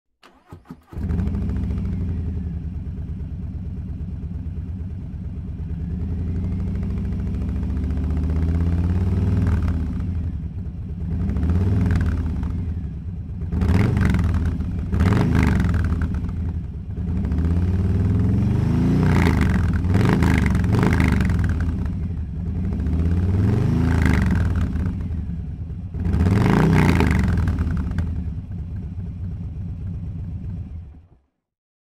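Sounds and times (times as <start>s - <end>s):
motorcycle engine idling and revving: 0.2s - 31.5s.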